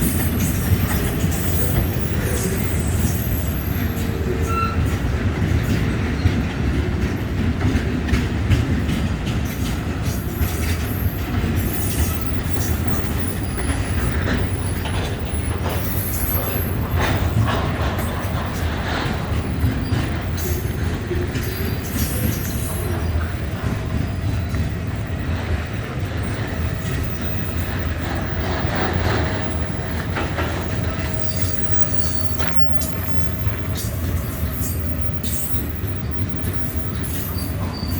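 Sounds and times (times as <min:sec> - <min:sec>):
high wheel squeals: 0:00.0 - 0:05.1, 0:10.2 - 0:37.9
freight train rumble: 0:00.0 - 0:37.9
wheels clicking over rail joints: 0:00.0 - 0:37.9.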